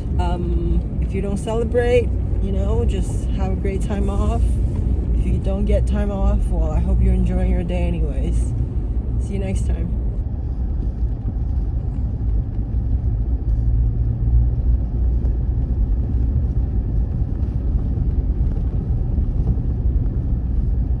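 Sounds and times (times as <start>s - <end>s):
pickup truck engine and road noise: 0.0s - 21.0s.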